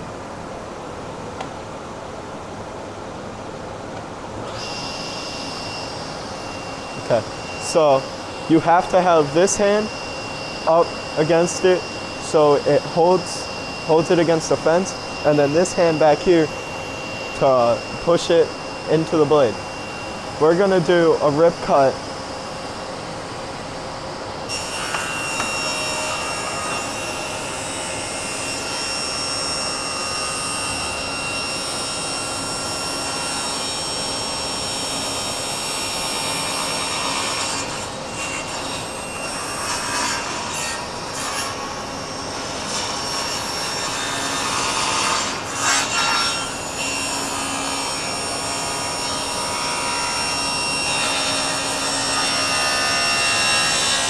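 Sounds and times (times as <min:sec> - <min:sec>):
table saw cutting wood: 0:04.4 - 0:22.8, 0:24.5 - 0:54.0.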